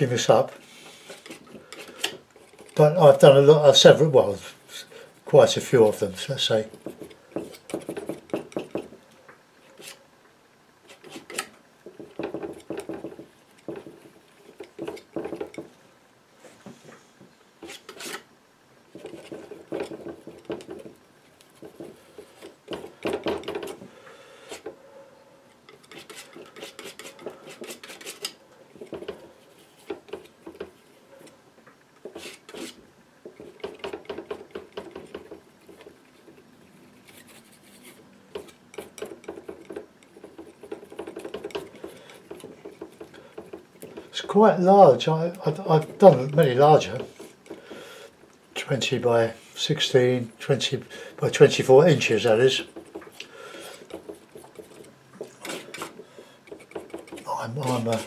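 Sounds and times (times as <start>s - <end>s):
painting knife scraping palette: 0.0s - 9.0s, 9.6s - 10.0s, 10.8s - 15.8s, 17.6s - 18.3s, 18.9s - 23.8s, 25.5s - 31.4s, 32.0s - 58.0s.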